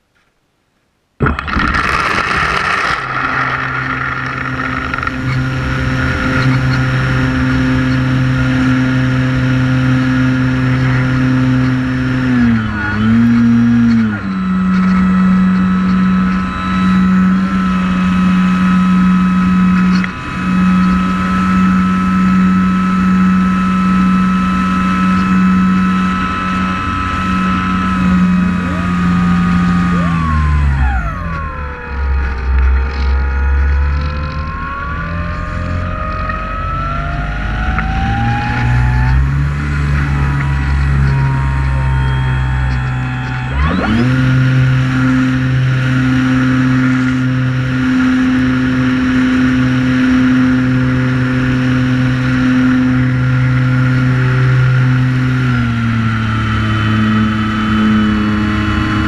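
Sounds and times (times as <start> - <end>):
drone propellers whining: 1.2 - 59.0.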